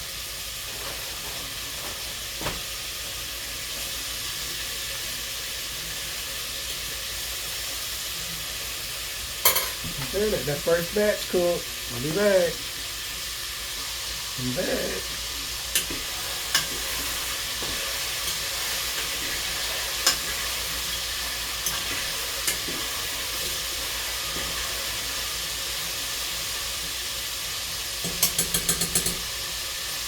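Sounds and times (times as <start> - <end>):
food deep-frying in oil: 0.0 - 30.0.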